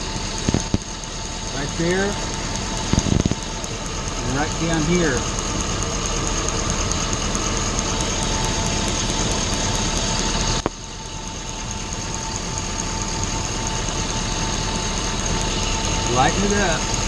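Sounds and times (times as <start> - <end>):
engine idling: 0.0 - 17.0
rapid even ticking: 0.1 - 17.0.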